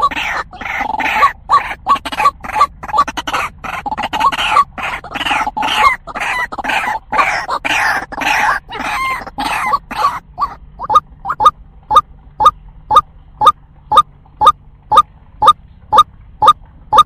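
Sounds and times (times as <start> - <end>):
waterhen calling rapid notes: 0.0 - 17.0.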